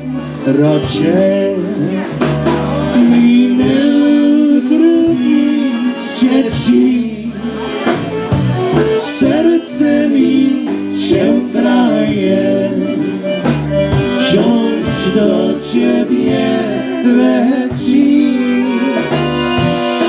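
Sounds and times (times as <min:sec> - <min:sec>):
polka band playing: 0:00.0 - 0:20.0.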